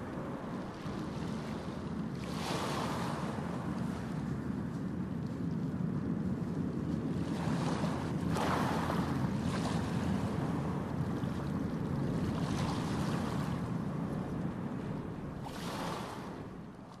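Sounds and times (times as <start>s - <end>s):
sea water splashing: 0.0s - 4.3s, 7.1s - 17.0s
steady low rumble: 0.0s - 17.0s
wind on microphone: 0.0s - 17.0s.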